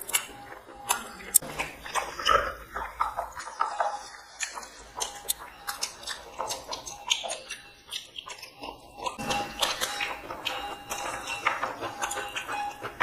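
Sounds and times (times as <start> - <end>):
mouth clicks and smacks: 0.0 - 13.0
people chewing food: 0.0 - 13.0.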